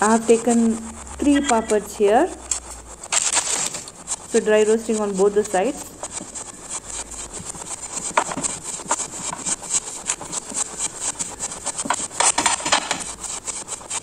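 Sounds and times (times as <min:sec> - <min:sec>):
papad crackling on a pan: 0:00.0 - 0:14.0.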